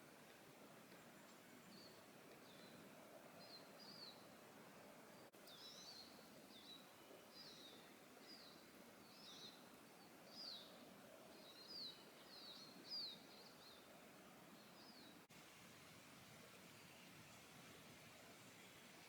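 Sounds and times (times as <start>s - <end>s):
quiet steady hiss: 0.0s - 19.0s.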